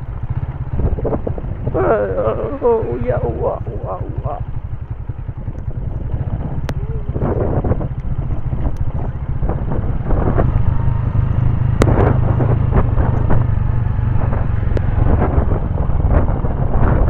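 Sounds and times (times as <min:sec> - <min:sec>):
knocks and rattles on rough track: 0:00.0 - 0:17.0
motorcycle engine running: 0:00.0 - 0:17.0.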